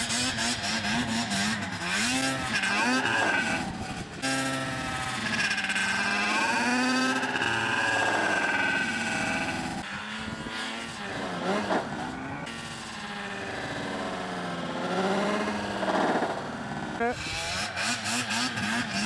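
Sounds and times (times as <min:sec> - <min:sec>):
snowmobile engines revving: 0:00.0 - 0:19.0.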